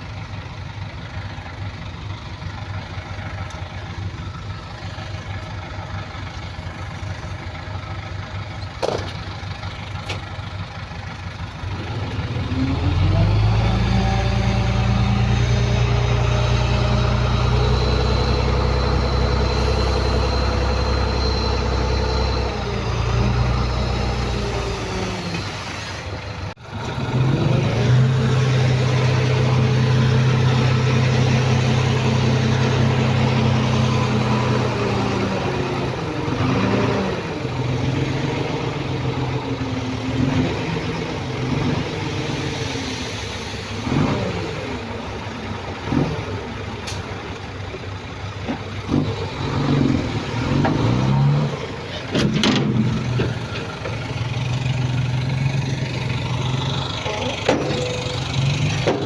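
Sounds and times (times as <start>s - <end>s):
heavy diesel engine revving: 0.0s - 59.0s.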